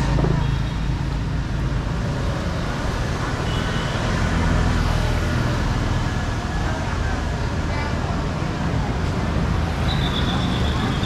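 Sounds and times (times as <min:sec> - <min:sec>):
street noise: 0:00.0 - 0:11.0
vehicle engines humming: 0:00.0 - 0:11.0.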